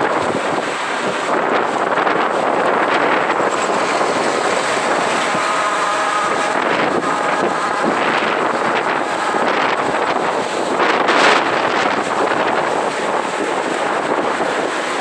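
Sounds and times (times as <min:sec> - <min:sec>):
engine and road noise: 0:00.0 - 0:15.0
faint whine: 0:00.0 - 0:15.0
wind buffeting microphone: 0:00.0 - 0:15.0.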